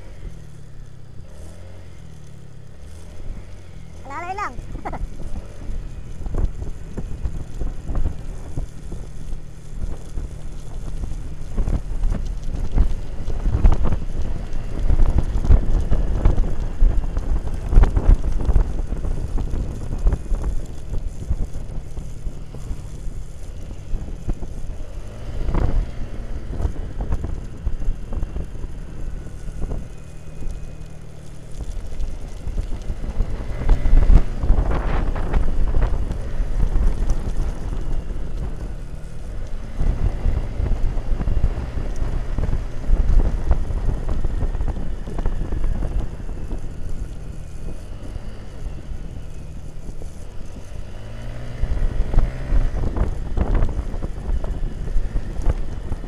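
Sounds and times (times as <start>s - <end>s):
motorcycle engine running: 0.0s - 56.0s
wind buffeting microphone: 4.0s - 56.0s.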